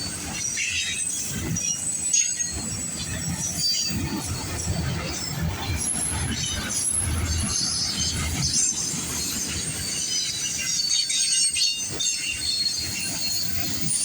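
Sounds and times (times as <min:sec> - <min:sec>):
train low rumble: 0:00.0 - 0:14.0
train wheels squealing on rails: 0:00.0 - 0:14.0.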